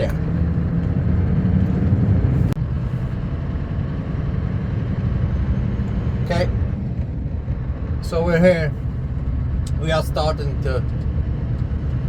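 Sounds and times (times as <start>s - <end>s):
road rumble: 0.0s - 12.0s
truck engine drone: 0.0s - 12.0s.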